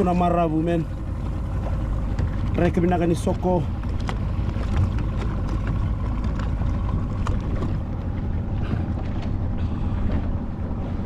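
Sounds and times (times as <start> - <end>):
boat engine hum: 0.0 - 11.0
water rushing along hull: 0.0 - 11.0.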